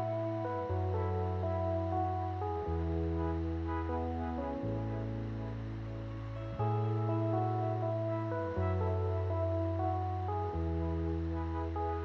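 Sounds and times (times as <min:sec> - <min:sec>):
instrumental music with held notes: 0:00.0 - 0:12.0
low sustained bass note: 0:00.0 - 0:12.0.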